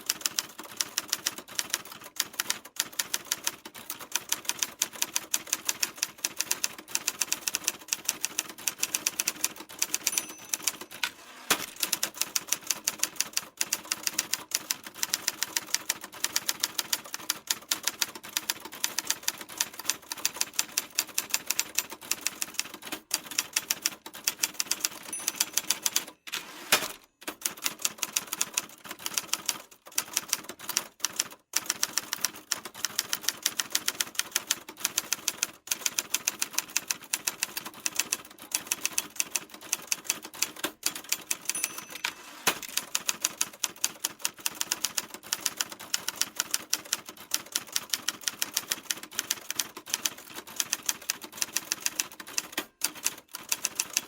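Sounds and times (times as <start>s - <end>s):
typewriter keys clicking: 0.1s - 54.0s.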